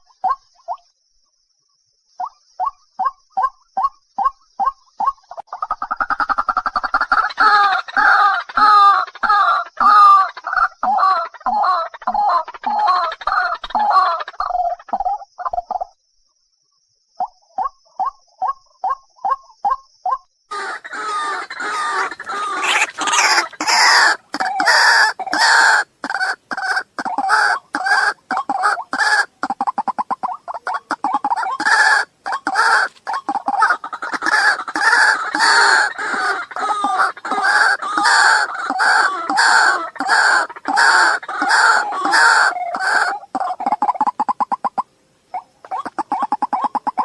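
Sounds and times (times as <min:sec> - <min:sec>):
waterhens calling: 0:04.2 - 0:15.5, 0:20.5 - 0:47.0.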